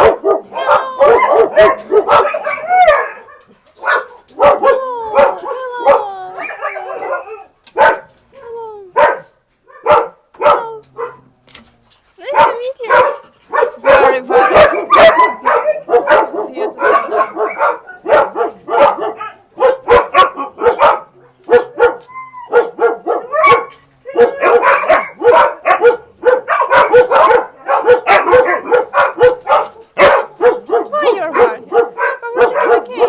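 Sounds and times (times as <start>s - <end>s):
dogs barking: 0.0s - 8.2s, 9.0s - 11.3s, 12.2s - 33.0s.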